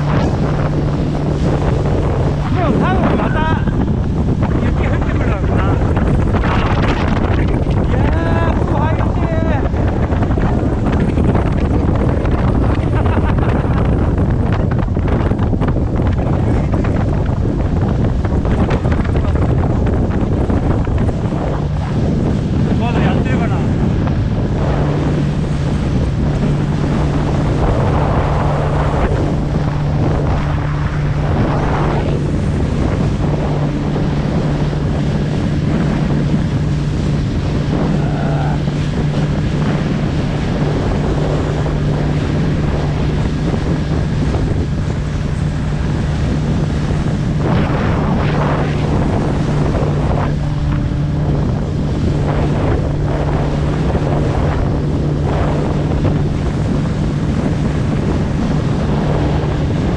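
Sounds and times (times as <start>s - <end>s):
boat engine running: 0.0s - 59.9s
water wash: 0.0s - 59.9s
wind buffeting microphone: 0.0s - 59.9s.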